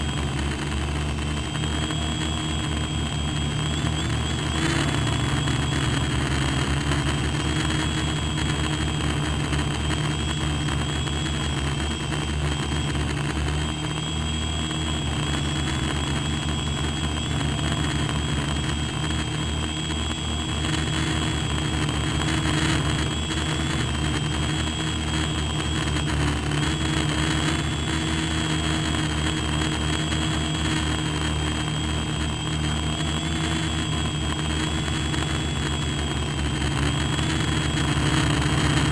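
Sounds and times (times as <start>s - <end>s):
model aircraft motor whining: 0.0s - 38.9s.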